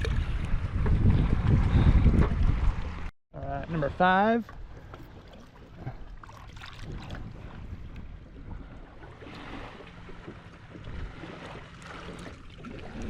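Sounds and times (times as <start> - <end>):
water noise around boat: 0.0 - 13.0
wind: 0.0 - 13.0.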